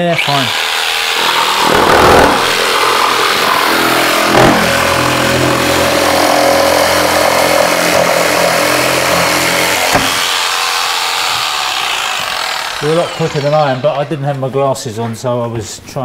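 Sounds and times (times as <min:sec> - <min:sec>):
jigsaw cutting timber: 0:00.0 - 0:14.2.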